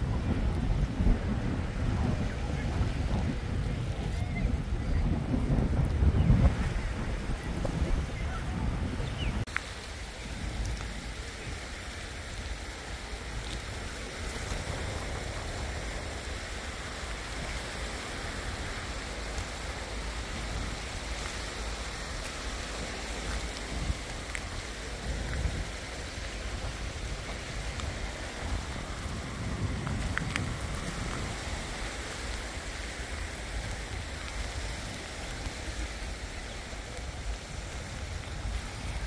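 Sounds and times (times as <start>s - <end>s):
small waves washing over pebbles: 0.0s - 39.0s
wind rumble on microphone: 0.0s - 39.0s.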